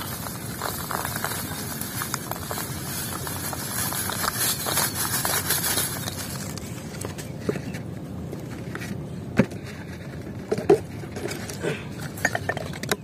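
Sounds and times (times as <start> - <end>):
low background rumble: 0.0 - 13.0
rustles: 0.0 - 13.0.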